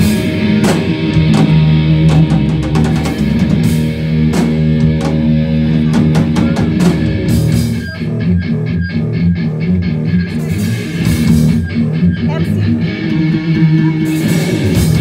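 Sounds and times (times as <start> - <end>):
drum kit beat: 0.0 - 8.7, 9.3 - 15.0
electric guitars: 0.0 - 15.0.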